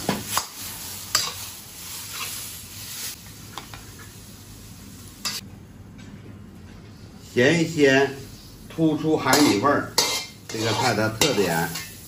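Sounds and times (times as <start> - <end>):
faint food sizzle: 0.0 - 5.4, 7.2 - 12.0.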